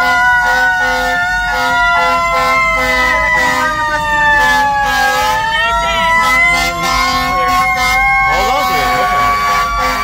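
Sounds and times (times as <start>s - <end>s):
sirens wailing: 0.0s - 10.0s.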